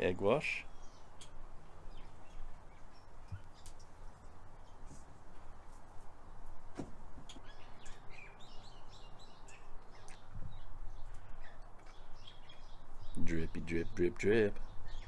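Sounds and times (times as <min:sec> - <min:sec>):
birds chirping: 0:00.0 - 0:15.0
low background noise: 0:00.0 - 0:15.0.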